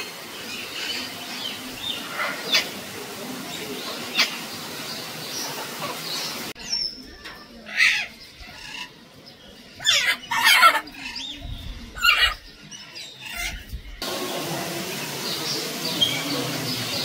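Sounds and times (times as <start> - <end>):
loud harsh bird calls: 0.0 - 17.0.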